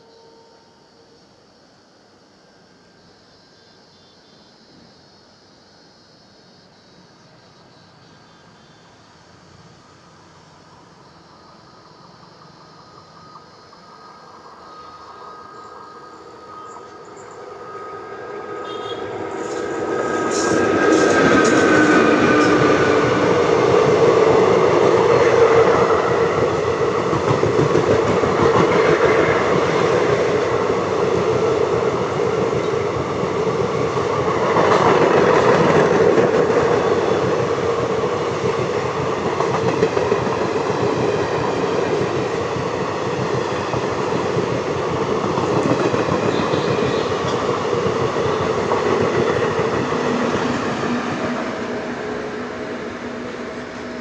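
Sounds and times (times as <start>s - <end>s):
locomotive high whine: 0.0s - 54.0s.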